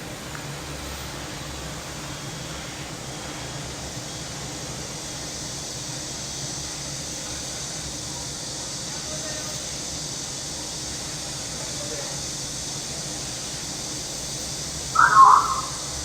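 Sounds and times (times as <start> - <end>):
cicadas chorus: 0.0 - 16.0.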